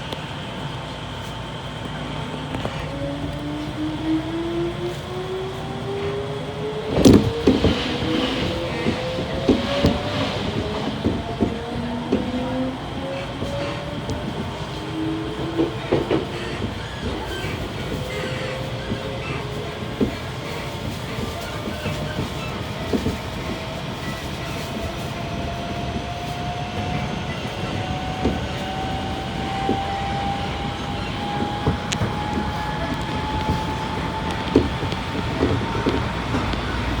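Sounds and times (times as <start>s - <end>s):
train rolling rumble: 0.0s - 37.0s
wheels clacking on track: 1.2s - 37.0s.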